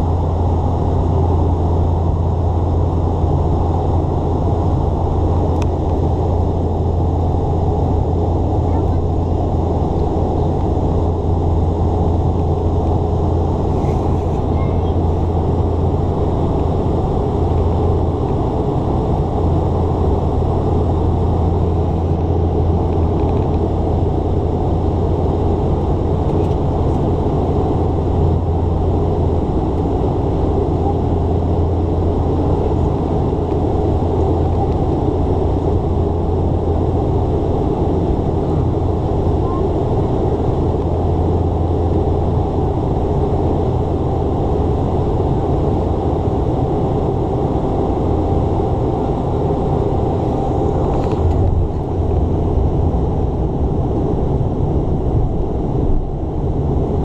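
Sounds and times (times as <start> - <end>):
turboprop cabin drone: 0.0 - 57.0.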